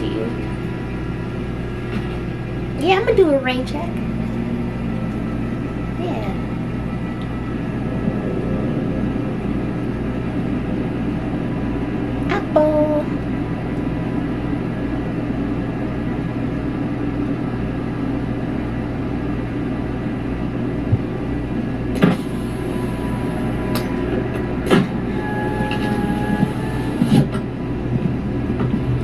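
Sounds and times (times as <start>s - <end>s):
vehicle rumble from inside: 0.0s - 29.0s.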